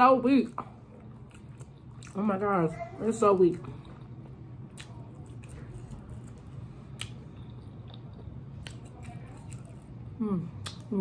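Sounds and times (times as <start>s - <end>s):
low steady hum: 0.0s - 11.0s
quiet chewing: 0.5s - 11.0s.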